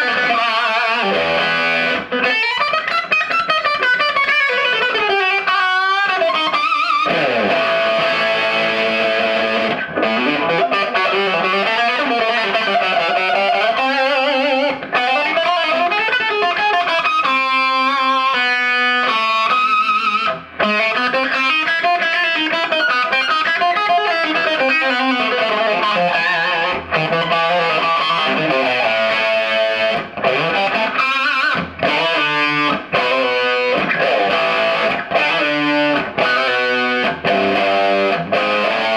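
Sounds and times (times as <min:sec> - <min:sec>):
electric guitar through amp: 0:00.0 - 0:38.9.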